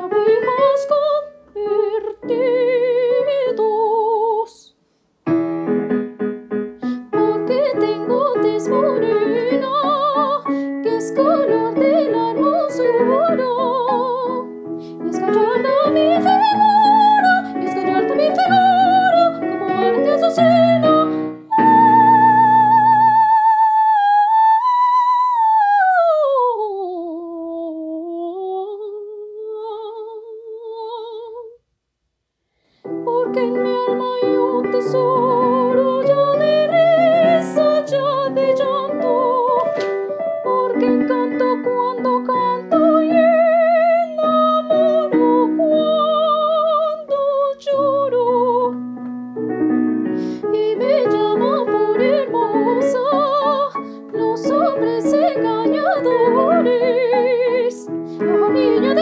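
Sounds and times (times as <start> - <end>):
piano accompaniment: 0.0 - 4.4, 5.2 - 23.9, 32.9 - 59.0
soprano singing with vibrato: 0.0 - 4.8, 6.8 - 31.6, 32.9 - 49.1, 50.0 - 59.0.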